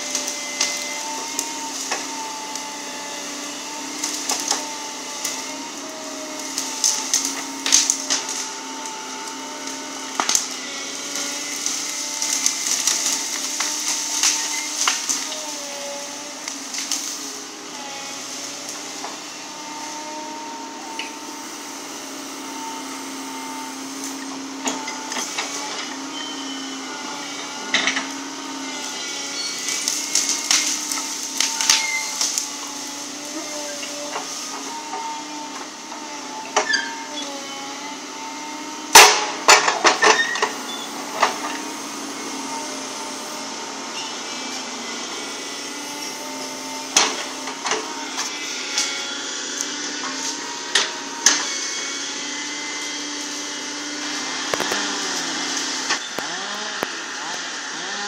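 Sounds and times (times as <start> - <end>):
branches cracking and snapping: 0.0 - 58.0
excavator engine and hydraulics: 0.0 - 58.0.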